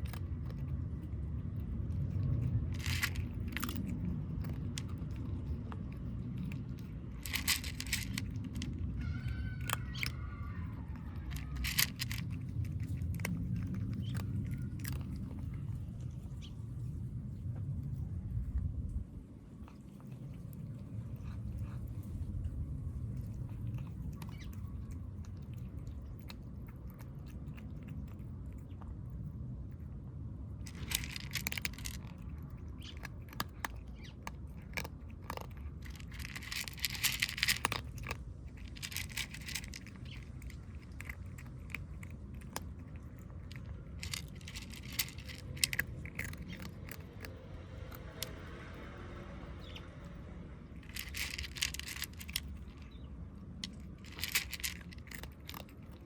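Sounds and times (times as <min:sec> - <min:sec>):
kittens crunching dry food: 0:00.0 - 0:56.0
low background rumble: 0:00.0 - 0:56.0.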